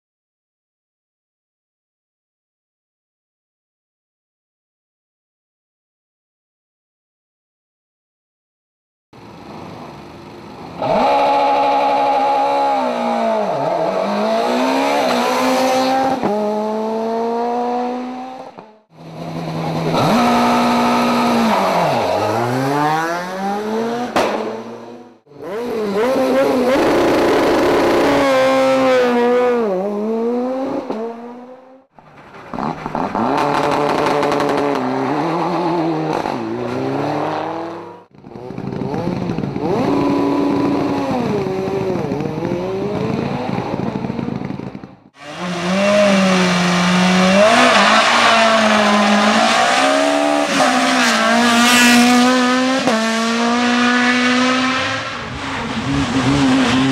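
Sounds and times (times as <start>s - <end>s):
rally car engines revving: 9.2s - 56.9s.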